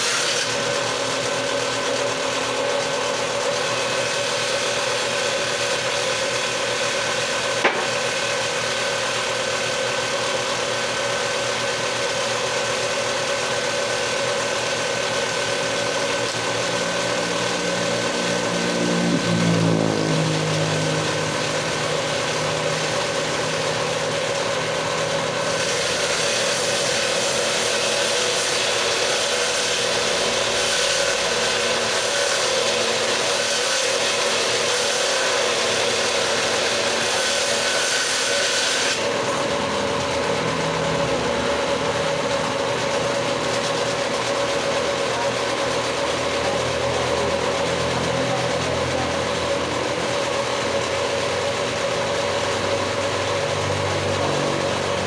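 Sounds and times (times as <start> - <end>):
power tool cutting wood: 0.0 - 55.0.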